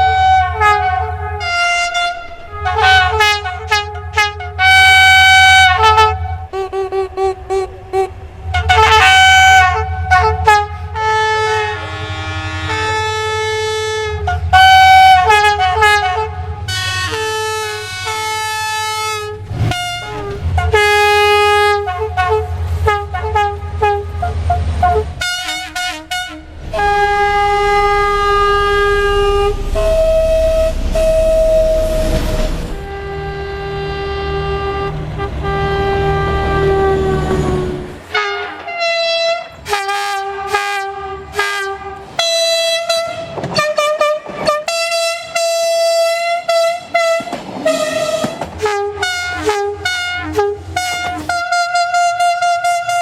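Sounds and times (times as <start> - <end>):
low rumble of trains: 0.0 - 53.0
train horns blowing: 0.0 - 53.0.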